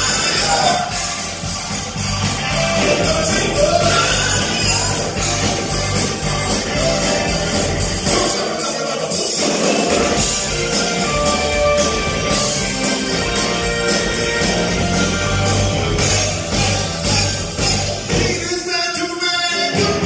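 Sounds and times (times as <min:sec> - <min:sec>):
electric bass: 0:00.0 - 0:08.4, 0:09.9 - 0:18.5
drum kit beat: 0:00.0 - 0:20.0
keyboards: 0:00.0 - 0:20.0.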